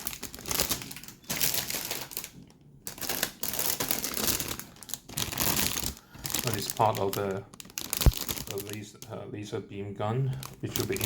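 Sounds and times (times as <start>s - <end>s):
plastic parts crinkling and clattering: 0.0s - 9.2s, 10.2s - 11.0s.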